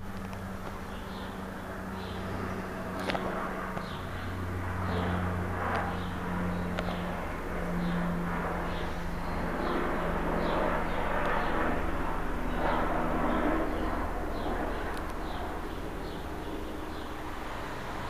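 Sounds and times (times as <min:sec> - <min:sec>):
ceiling fan motor hum: 0:00.0 - 0:18.0.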